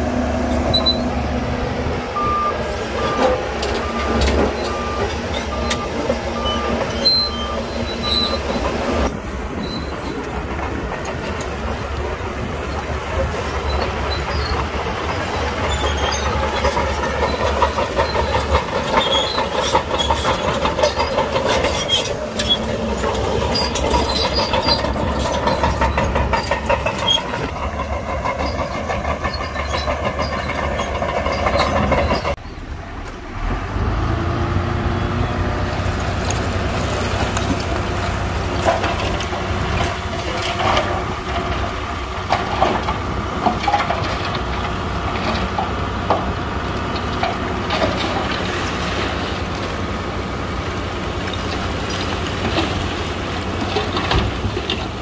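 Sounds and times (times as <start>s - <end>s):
bulldozer diesel engine: 0.0s - 55.0s
steel tracks clanking: 0.0s - 55.0s
truck engine drone: 0.0s - 55.0s.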